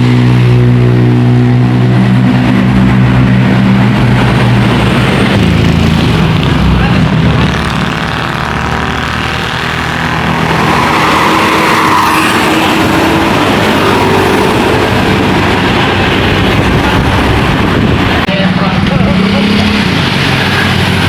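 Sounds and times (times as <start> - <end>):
bus driving past: 0.0 - 21.0.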